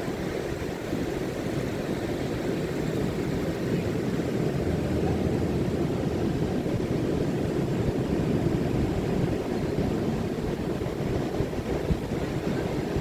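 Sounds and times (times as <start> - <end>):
waves breaking on beach: 0.0 - 13.0.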